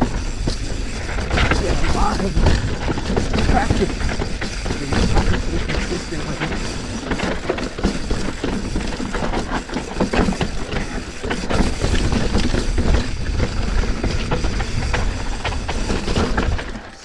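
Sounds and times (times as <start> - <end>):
wind on microphone: 0.0 - 16.8
bike rattling over rocks: 0.0 - 17.0
tyres rumbling on dirt: 0.0 - 17.0.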